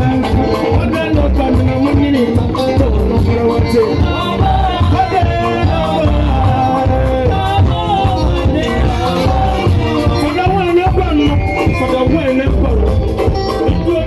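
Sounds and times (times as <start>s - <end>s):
live band through speakers: 0.0s - 14.0s
person singing: 0.0s - 14.0s.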